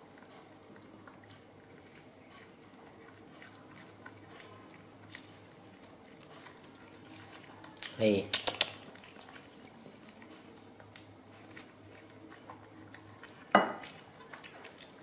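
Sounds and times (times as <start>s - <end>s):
monkeys chewing fruit: 0.0s - 15.0s.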